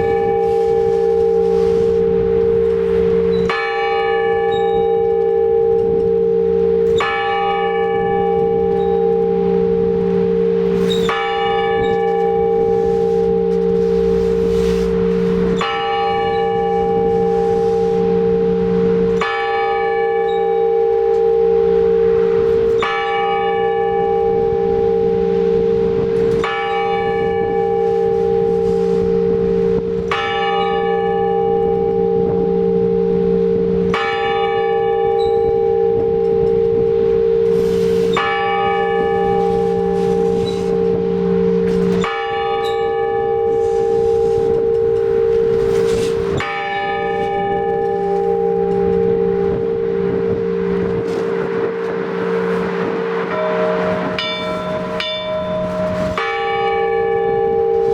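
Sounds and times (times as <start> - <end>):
large church bell ringing: 0.0 - 57.9.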